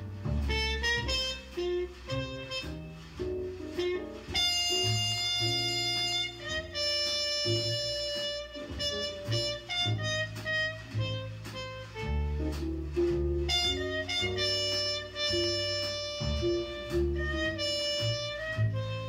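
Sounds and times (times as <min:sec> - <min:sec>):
muted trumpet melody: 0:00.0 - 0:19.0
walking bass: 0:00.0 - 0:19.0.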